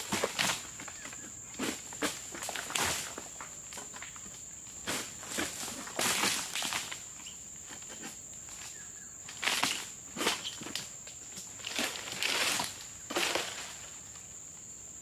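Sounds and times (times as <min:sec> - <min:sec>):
dry fronds rustling and crunching: 0:00.0 - 0:14.4.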